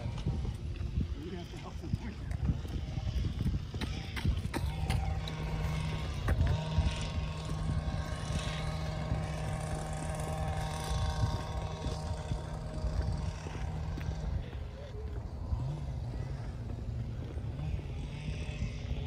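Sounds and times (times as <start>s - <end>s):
distant engine droning: 0.0s - 19.0s
wind rumble on microphone: 0.0s - 19.0s.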